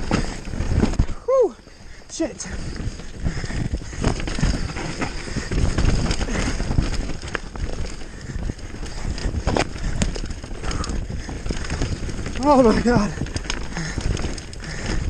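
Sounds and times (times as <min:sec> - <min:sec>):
bike rattling: 0:00.0 - 0:15.0
bike tyres rumbling over stones: 0:00.0 - 0:15.0
wind on microphone: 0:00.0 - 0:15.0.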